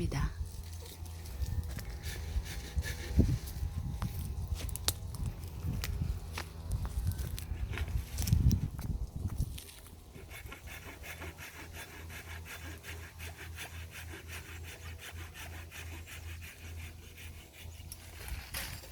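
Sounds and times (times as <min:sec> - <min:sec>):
hand saw cutting branch: 0:00.6 - 0:08.7, 0:09.5 - 0:18.9.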